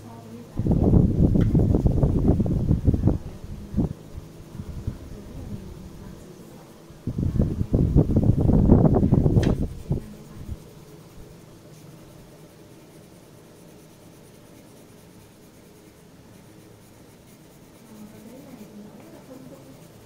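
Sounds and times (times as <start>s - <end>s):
pencil scratching on paper: 0.4s - 20.0s.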